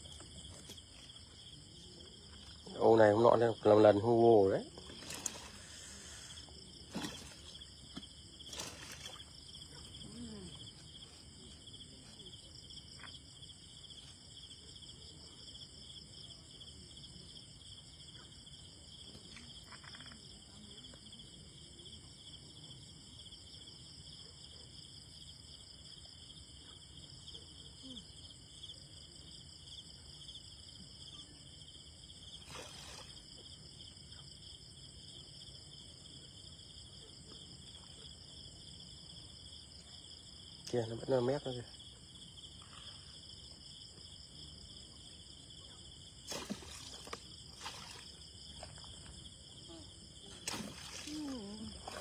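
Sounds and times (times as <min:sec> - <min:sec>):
night insects chirring: 0:00.0 - 0:52.0.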